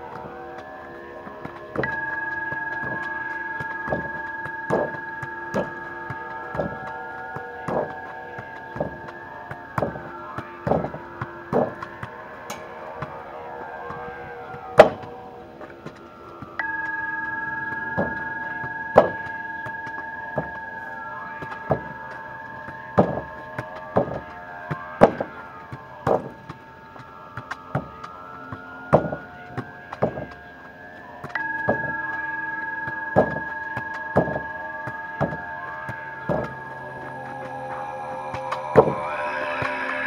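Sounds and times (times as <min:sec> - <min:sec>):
music of long held chords: 0:00.0 - 0:40.0
ball thudding off wooden boards: 0:01.4 - 0:13.2, 0:13.9 - 0:30.5, 0:31.2 - 0:37.2.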